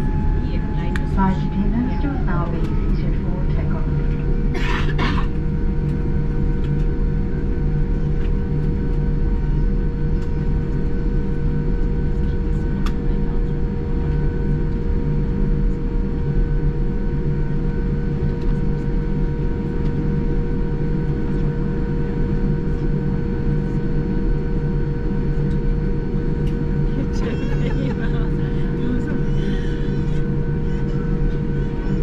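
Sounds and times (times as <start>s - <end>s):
aircraft cabin rumble and whine: 0.0s - 32.0s.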